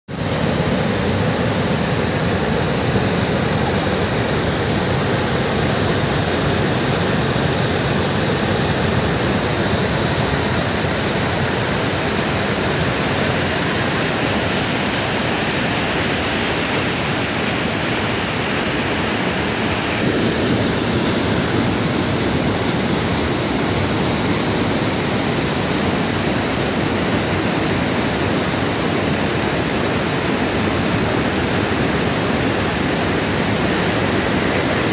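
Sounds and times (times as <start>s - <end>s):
waterfall rushing over rocks: 0.1s - 34.9s.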